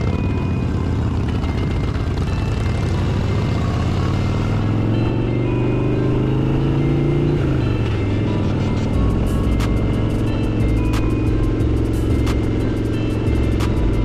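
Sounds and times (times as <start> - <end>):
motorcycle engine accelerating: 0.0 - 14.0
road and wind noise: 0.0 - 14.0.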